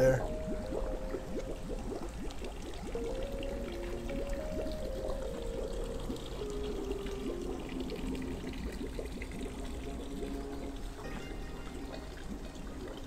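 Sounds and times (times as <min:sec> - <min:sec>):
water pouring into pond: 0:00.0 - 0:13.0.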